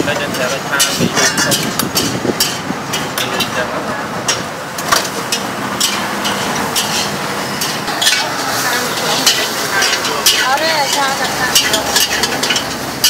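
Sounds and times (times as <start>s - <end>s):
cooking hiss: 0.0s - 13.0s
ladle and tongs clinking on pot: 0.1s - 13.0s.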